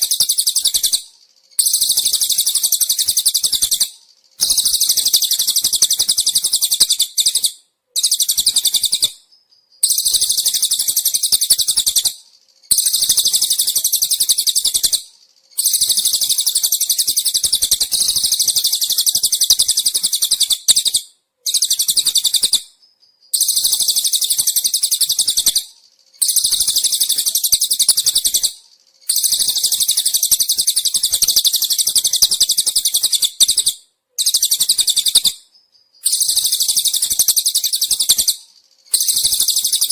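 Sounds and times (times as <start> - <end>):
birds trilling: 0.0 - 39.9
crickets: 0.0 - 39.9.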